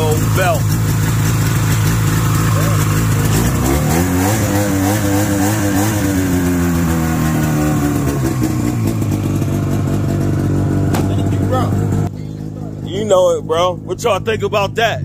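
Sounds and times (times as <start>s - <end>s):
snowmobile engine idling: 0.0s - 15.0s.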